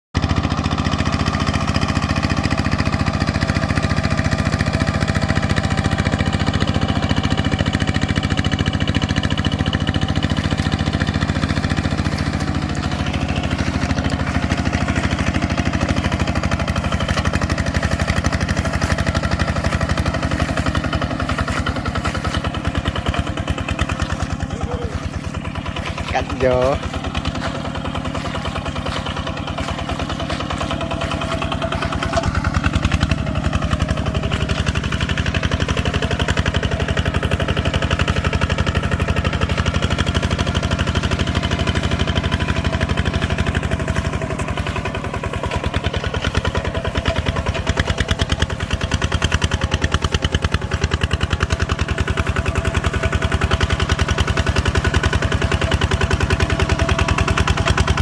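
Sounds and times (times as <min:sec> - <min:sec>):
farm machine engine pulsing: 0:00.2 - 0:58.0.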